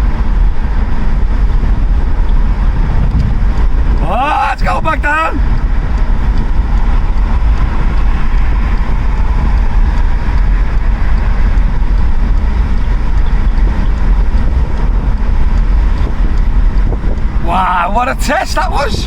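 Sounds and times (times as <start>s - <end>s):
wind buffeting microphone: 0.0s - 4.0s, 5.4s - 17.5s
car road noise: 0.0s - 19.0s.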